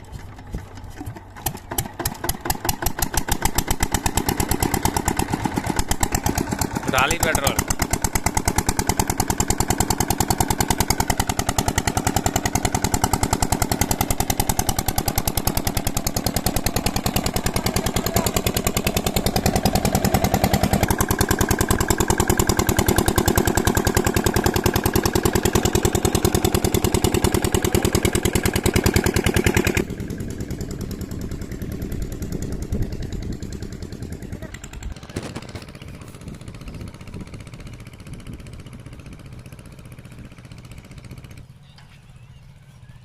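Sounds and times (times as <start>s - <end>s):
diesel engine chugging: 0.0s - 43.0s.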